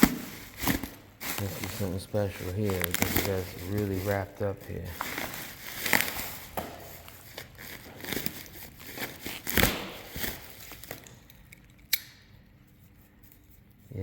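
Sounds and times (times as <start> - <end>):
packaging wrap crinkling and tearing: 0.0 - 11.6.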